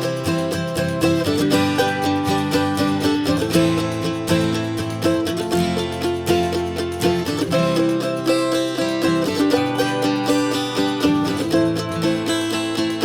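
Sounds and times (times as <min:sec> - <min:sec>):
plucked string music: 0:00.0 - 0:13.0.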